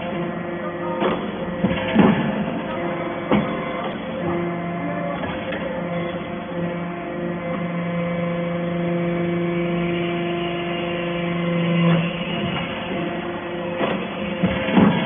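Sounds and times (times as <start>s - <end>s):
hydraulic baler droning hum: 0.0s - 15.0s.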